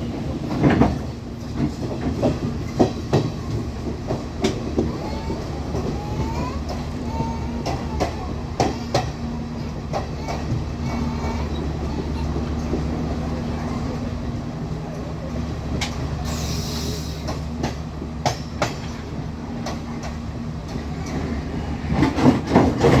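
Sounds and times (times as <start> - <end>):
diesel train drone: 0.0 - 23.0
wheels clicking over rail joints: 0.1 - 23.0.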